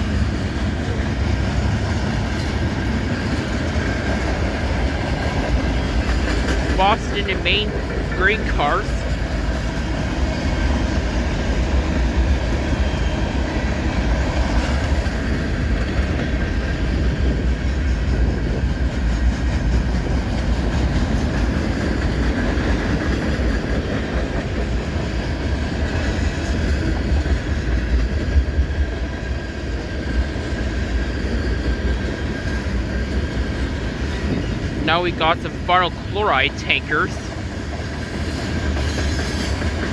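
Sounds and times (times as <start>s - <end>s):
train wheels rumbling on rail: 0.0s - 7.0s, 8.9s - 34.8s, 37.2s - 39.9s.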